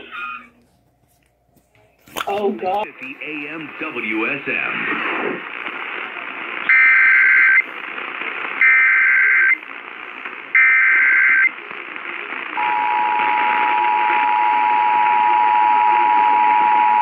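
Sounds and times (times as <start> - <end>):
radio static hiss: 2.1 - 17.0.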